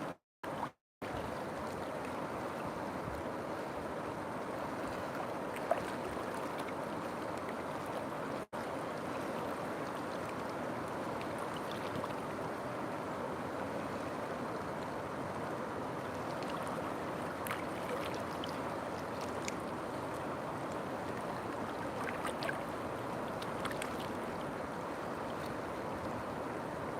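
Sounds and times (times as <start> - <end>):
river water flowing: 0.5 - 26.9.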